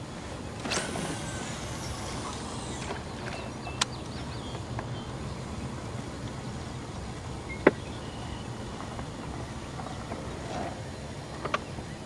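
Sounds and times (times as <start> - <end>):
boat motor humming: 0.0 - 12.0
wind and water noise: 0.0 - 12.0.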